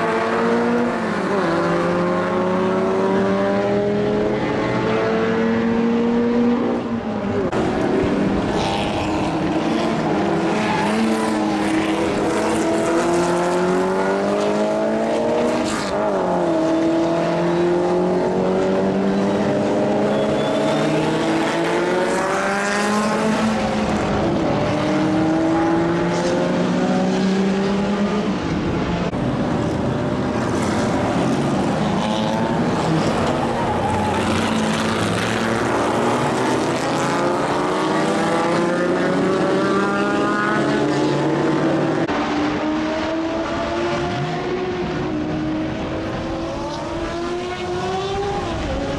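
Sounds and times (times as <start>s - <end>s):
racing car engines passing by: 0.0s - 48.9s.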